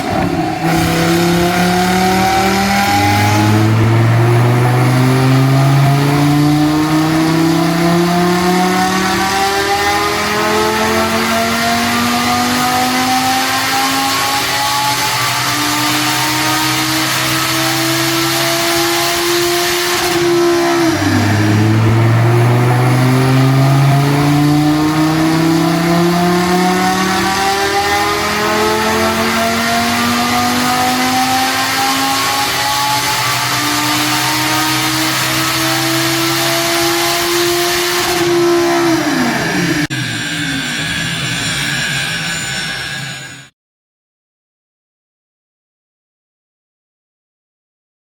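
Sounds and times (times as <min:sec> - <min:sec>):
car engine under load: 0:00.0 - 0:40.8.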